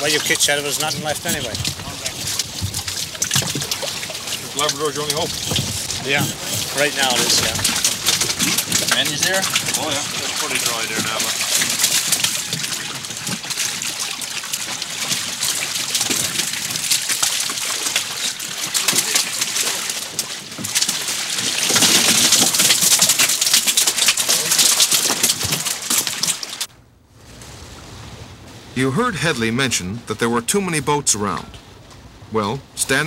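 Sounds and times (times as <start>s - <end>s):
small knocks and clatters: 0.0s - 26.7s
water splashing off a net: 0.0s - 26.7s.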